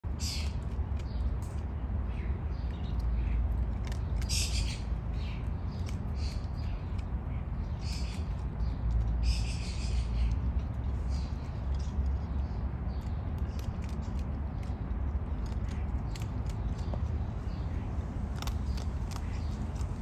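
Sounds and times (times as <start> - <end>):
steady low rumble: 0.0 - 20.0
birds chirping: 0.1 - 20.0.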